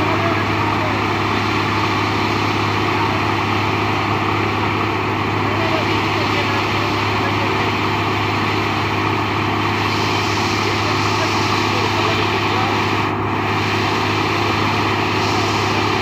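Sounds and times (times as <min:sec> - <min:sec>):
combine harvester machinery drone: 0:00.0 - 0:16.0.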